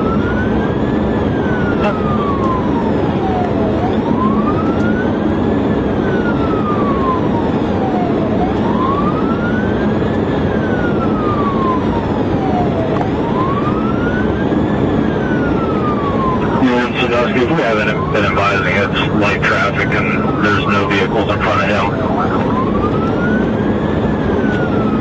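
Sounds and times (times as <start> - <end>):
car road and engine noise: 0.0 - 25.0
police siren wailing: 0.0 - 25.0.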